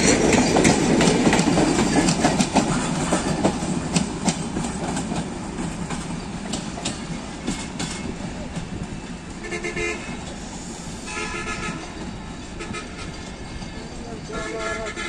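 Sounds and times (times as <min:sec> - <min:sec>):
train rumble: 0:00.0 - 0:15.0
train wheels clicking over rail joints: 0:00.0 - 0:15.0.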